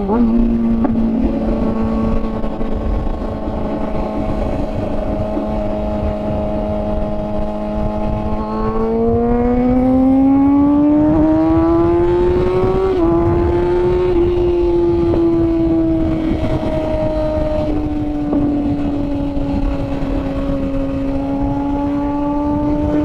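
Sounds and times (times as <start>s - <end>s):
motorcycle engine revving: 0.0s - 23.0s
wind rush over microphone: 0.0s - 23.0s.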